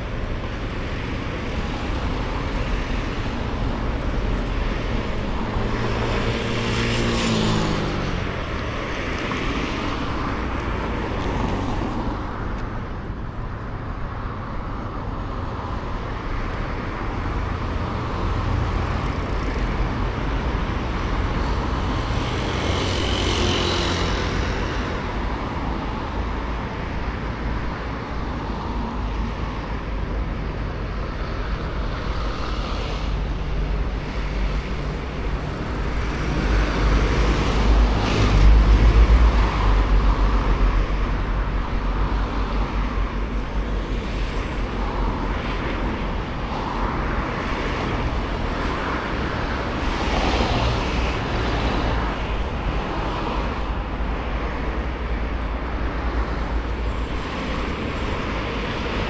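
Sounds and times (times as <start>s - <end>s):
traffic hum: 0.0s - 59.0s
vehicles passing: 0.0s - 59.0s.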